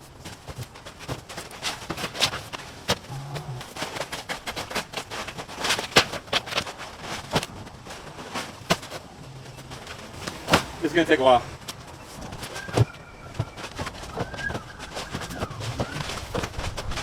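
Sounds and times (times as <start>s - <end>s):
junk and debris being moved: 0.0s - 17.0s.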